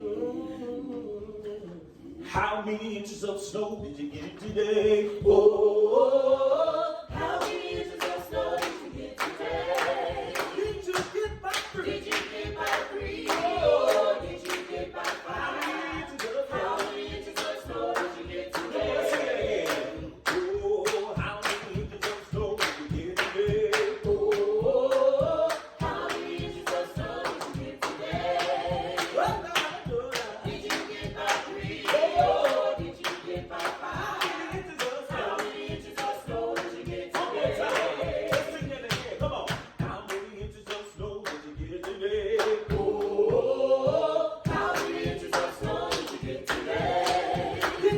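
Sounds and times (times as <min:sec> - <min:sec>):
group singing a cappella: 0:00.0 - 0:47.9
sharp percussive beat: 0:07.1 - 0:42.0, 0:42.6 - 0:47.9.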